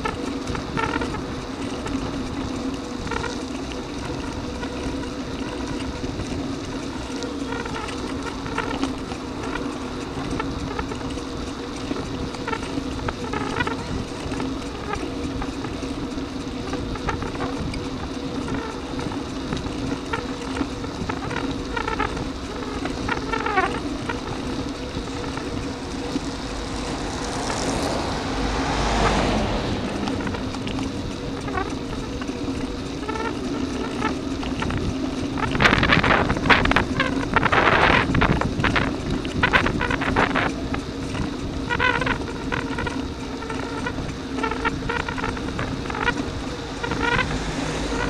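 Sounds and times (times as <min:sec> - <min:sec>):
truck passing: 0:00.0 - 0:17.4, 0:18.3 - 0:48.0
bicycle riding hum and rattle: 0:00.0 - 0:48.0.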